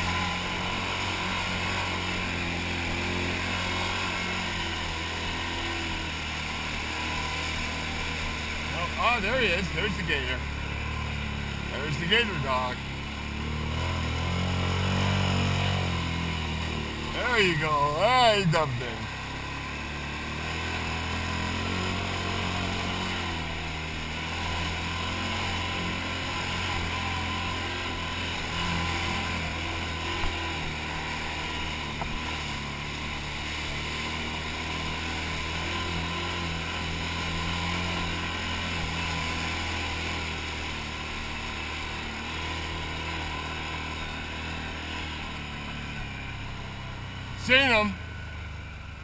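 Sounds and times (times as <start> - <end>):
atv engine running: 0.0 - 49.0.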